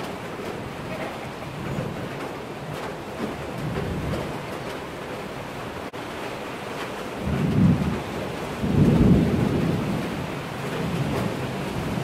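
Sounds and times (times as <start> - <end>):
thunder rolling: 0.0 - 4.8, 7.2 - 12.0
rain hissing: 0.0 - 12.0.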